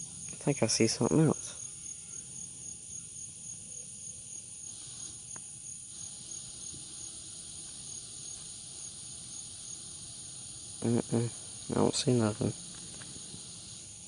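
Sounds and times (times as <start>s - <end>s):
crickets and insects chirping: 0.0s - 14.0s
high pulsing insect trill: 0.0s - 14.0s.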